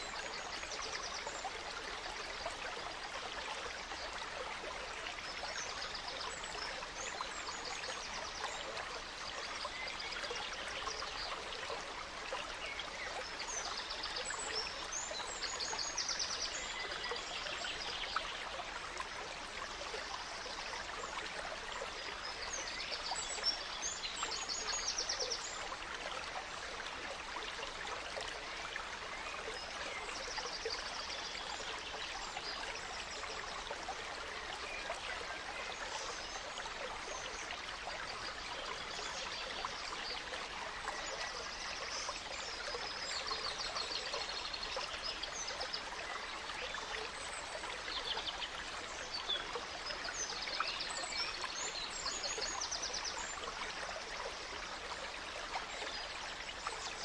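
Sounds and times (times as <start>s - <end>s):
stream running over stones: 0.0s - 57.0s.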